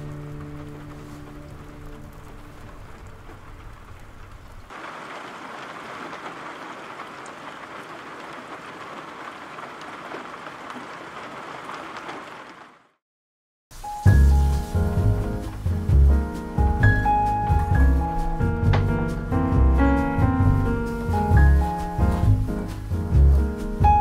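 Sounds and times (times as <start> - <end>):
steady rain falling: 0.0 - 13.0, 13.7 - 24.0.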